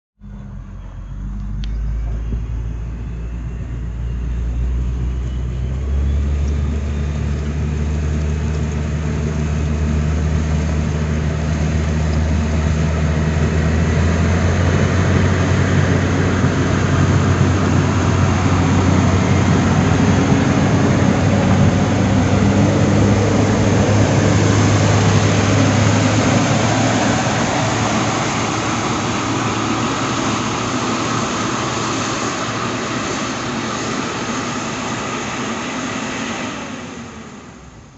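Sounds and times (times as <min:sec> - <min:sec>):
diesel engine running: 0:00.2 - 0:37.9.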